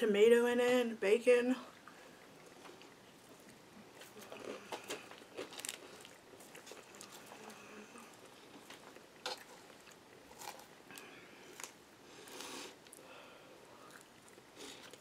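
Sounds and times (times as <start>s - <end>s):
chewing crisp salad: 1.8s - 13.0s, 13.7s - 15.0s.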